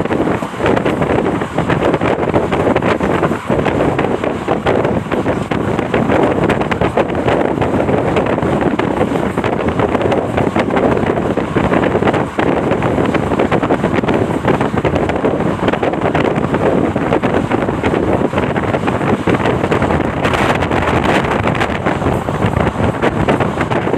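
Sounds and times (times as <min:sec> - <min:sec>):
rushing rumble: 0:00.0 - 0:23.9
wind buffeting microphone: 0:00.0 - 0:23.9.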